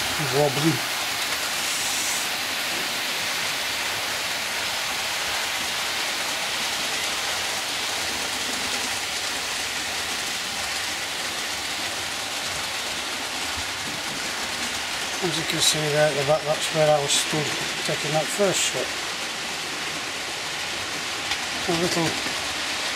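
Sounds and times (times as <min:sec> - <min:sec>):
model train wheels rattling: 0:02.6 - 0:22.9.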